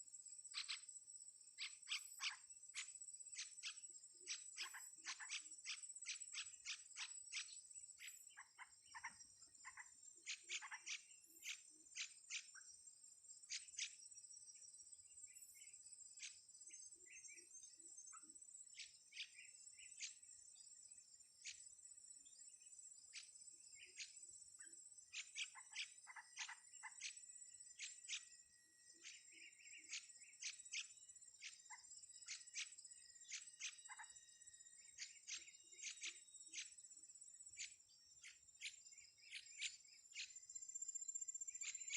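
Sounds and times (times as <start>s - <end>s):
bird chirps: 0.0s - 41.9s.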